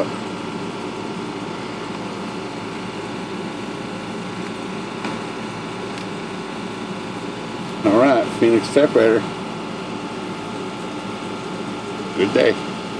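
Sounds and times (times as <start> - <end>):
machine humming and hissing: 0.0 - 12.9.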